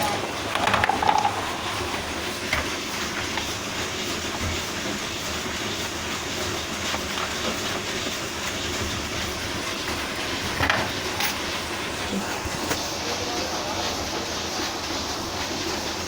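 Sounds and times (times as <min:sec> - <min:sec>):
computer fans whirring: 0:00.0 - 0:16.0.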